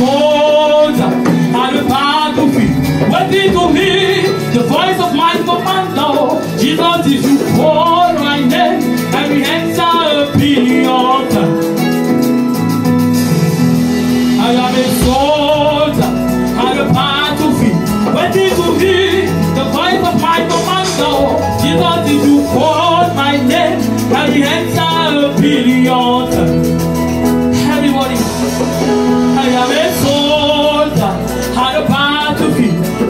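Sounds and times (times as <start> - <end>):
person singing into a microphone: 0.0 - 12.2, 14.3 - 33.0
live band accompaniment: 0.0 - 33.0
steady bass line: 0.0 - 33.0.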